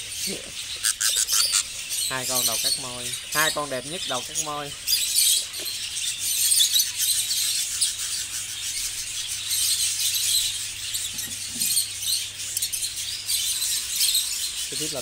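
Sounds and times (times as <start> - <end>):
budgerigars chirping and twittering: 0.0 - 15.0.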